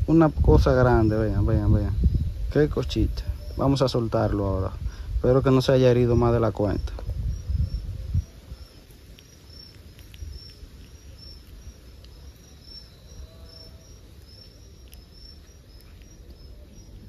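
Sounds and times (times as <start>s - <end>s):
high cricket-like chirps: 0.0s - 17.0s.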